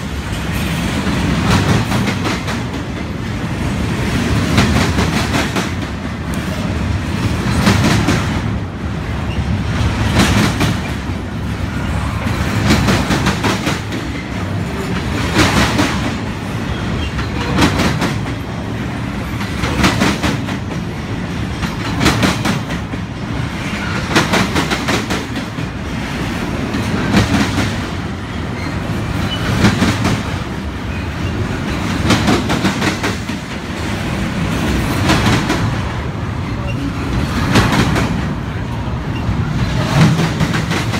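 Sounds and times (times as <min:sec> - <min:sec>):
train wheels clacking over rail joints: 0:00.0 - 0:08.6, 0:09.2 - 0:38.4, 0:39.2 - 0:40.9
train rumble: 0:00.0 - 0:40.9.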